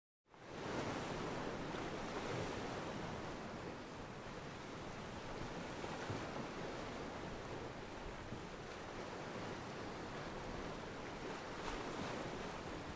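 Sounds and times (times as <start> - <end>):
ocean waves washing against pier: 0.4 - 12.9.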